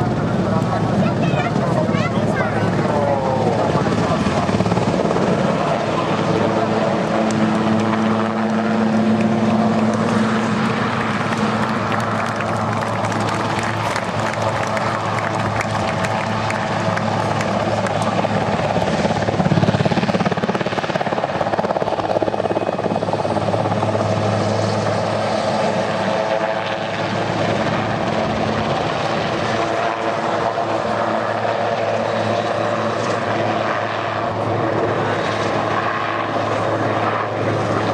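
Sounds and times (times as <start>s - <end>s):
helicopter flying past: 0.0s - 37.9s
helicopter rotor chop: 0.0s - 37.9s.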